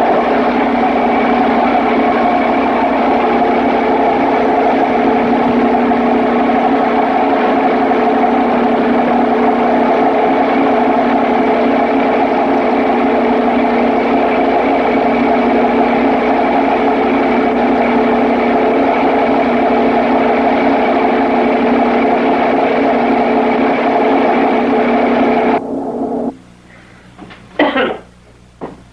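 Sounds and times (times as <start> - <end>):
engine running with mechanical hum: 0.0 - 28.0.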